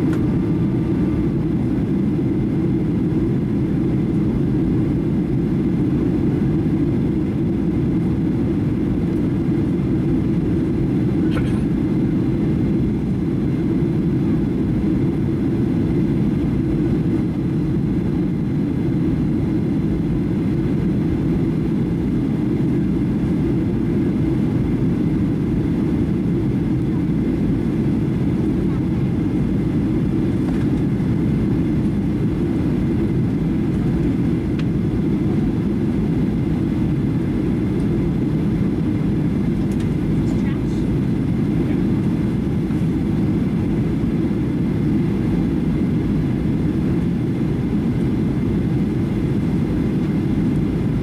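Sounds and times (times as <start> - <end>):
airplane cabin engine rumble: 0.0 - 51.0.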